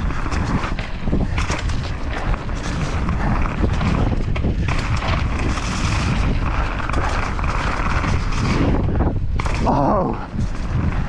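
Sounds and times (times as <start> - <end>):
bike rattling and knocking: 0.0 - 11.0
wind rushing over microphone: 0.0 - 11.0.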